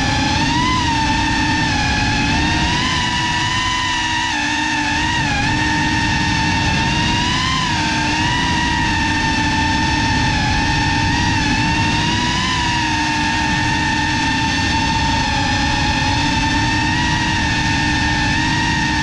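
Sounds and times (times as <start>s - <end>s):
drone motors whining: 0.0s - 19.0s
prop wash rushing: 0.0s - 19.0s.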